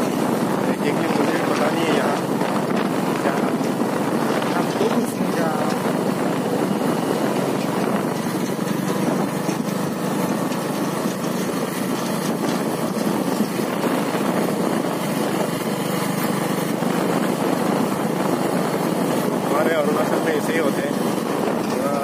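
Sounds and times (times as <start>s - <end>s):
motorcycle engine running: 0.0s - 22.0s
wind rushing: 0.0s - 22.0s.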